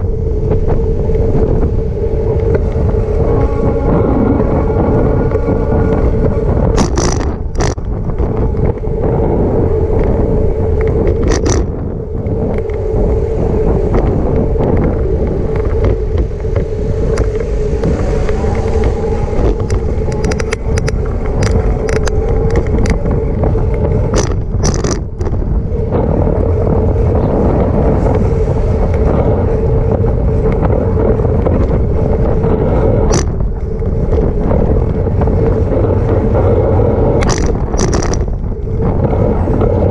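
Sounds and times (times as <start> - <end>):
bicycle rattles: 0.0 - 39.9
constant hum: 0.0 - 39.9
wind and road rumble: 0.0 - 39.9.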